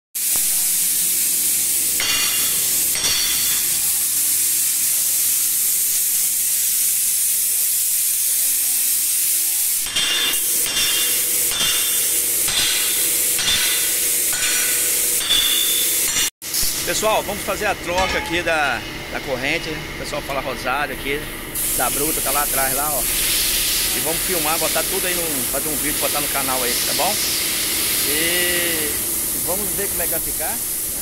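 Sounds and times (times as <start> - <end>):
high-pitched hiss: 0.2 - 18.8, 21.6 - 31.0.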